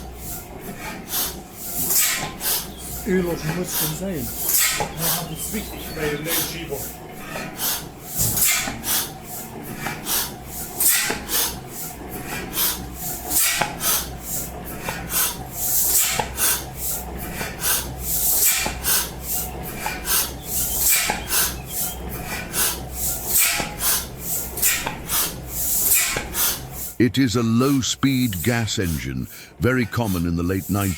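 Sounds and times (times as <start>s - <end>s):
stationary engine rasping beat: 0.0s - 30.9s.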